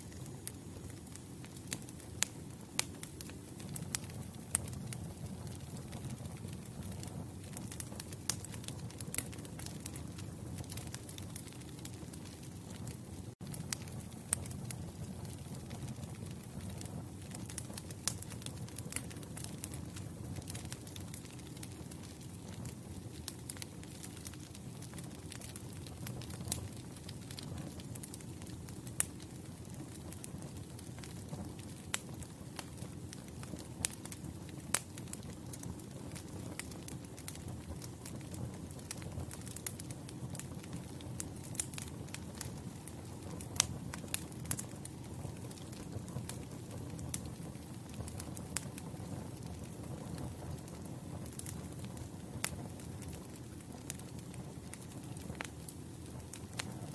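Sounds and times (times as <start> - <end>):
campfire crackling and popping: 0.0 - 56.9
low rumble of flames: 0.0 - 56.9.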